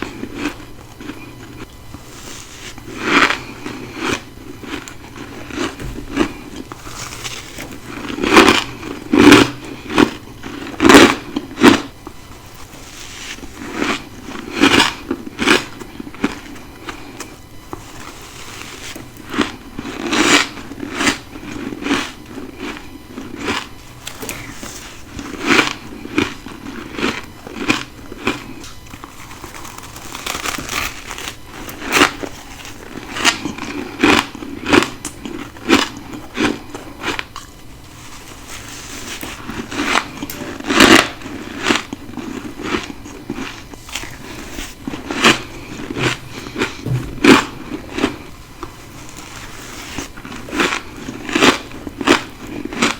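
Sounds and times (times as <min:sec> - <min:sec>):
person chewing ice: 0:00.0 - 0:52.9.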